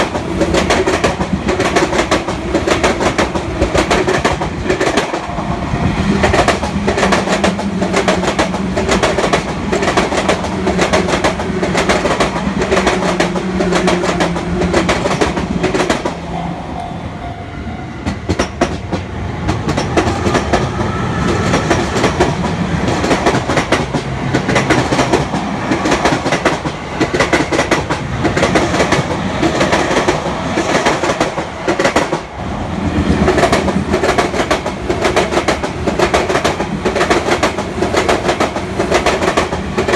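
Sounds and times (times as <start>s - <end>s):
train wheels clattering: 0.0s - 16.2s, 18.0s - 32.3s, 32.9s - 39.9s.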